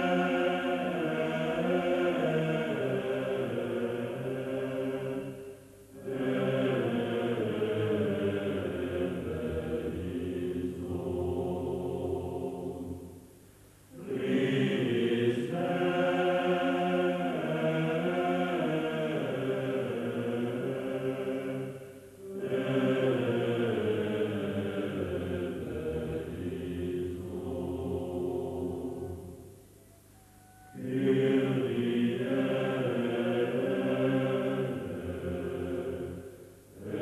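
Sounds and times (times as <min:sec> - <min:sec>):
voices chanting held notes: 0:00.0 - 0:13.1, 0:13.9 - 0:37.0.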